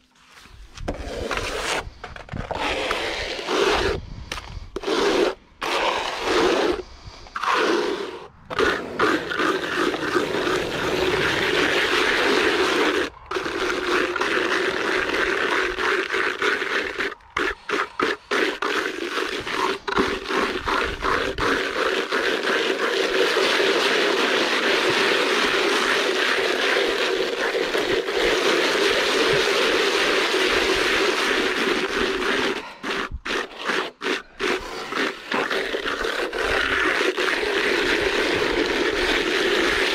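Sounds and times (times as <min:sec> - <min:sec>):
hand tool scraping render on wall: 0:00.0 - 0:39.9.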